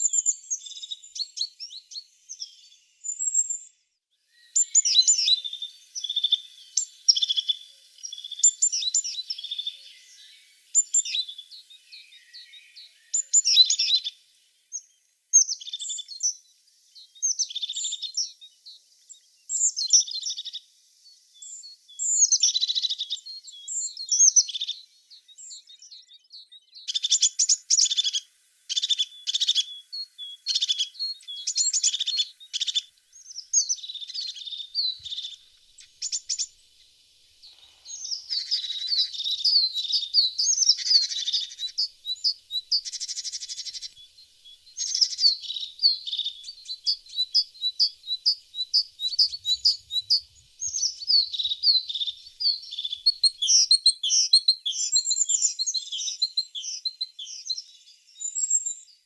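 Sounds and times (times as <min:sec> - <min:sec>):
birds chirping and trilling: 0:04.4 - 0:16.3, 0:21.4 - 0:59.0.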